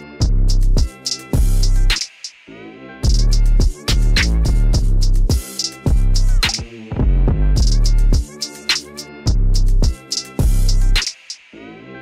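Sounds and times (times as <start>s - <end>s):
music with heavy bass beat: 0.0s - 11.6s.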